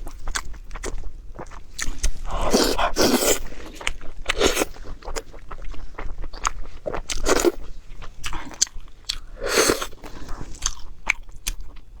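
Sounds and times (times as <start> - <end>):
biting and chewing crunches: 0.0 - 11.9.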